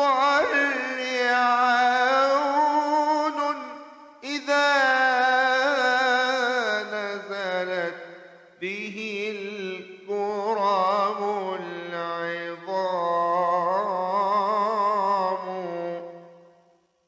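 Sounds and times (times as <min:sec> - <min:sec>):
man chanting melismatic melody: 0:00.0 - 0:16.5.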